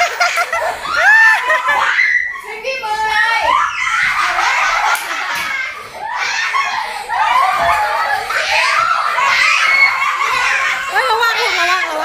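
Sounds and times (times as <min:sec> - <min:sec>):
children laughing: 0:00.0 - 0:12.0.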